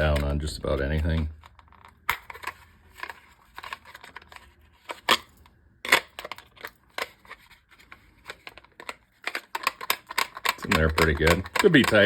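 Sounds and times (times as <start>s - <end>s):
plastic sheath clicks and scrapes: 0.0s - 12.0s.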